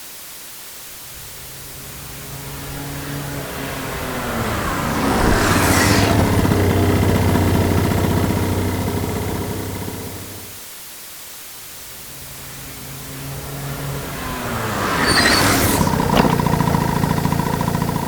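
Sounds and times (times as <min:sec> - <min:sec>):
another engine: 0:01.2 - 0:10.6, 0:12.0 - 0:18.0
motorcycle passing by: 0:01.2 - 0:10.6, 0:12.0 - 0:18.0.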